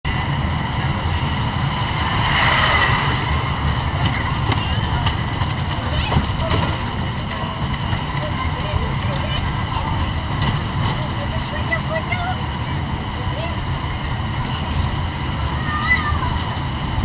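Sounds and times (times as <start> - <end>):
road train low rumble: 0.0 - 17.0
passengers talking indistinctly: 0.1 - 17.0.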